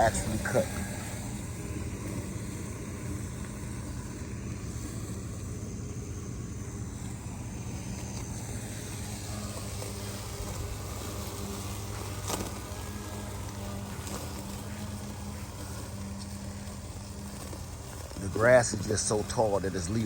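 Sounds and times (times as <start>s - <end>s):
robotic lawnmower buzzing hum: 0.0s - 20.0s.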